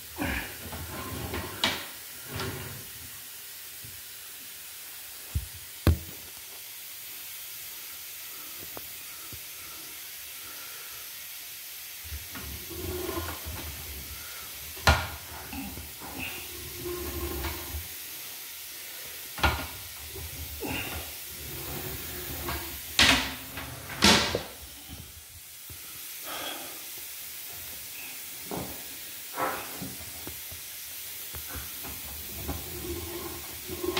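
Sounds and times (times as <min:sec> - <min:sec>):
steady hiss: 0:00.0 - 0:33.9.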